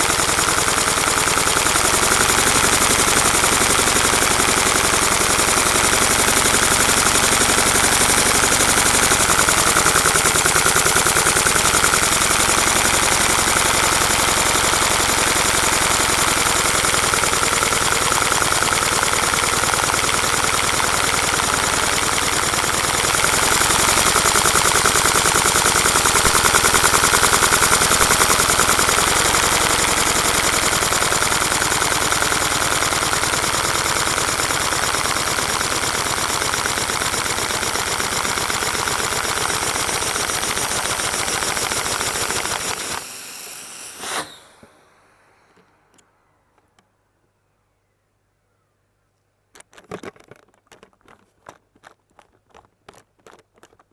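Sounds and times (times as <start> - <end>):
model engine clattering: 0.0 - 43.9, 49.5 - 53.9.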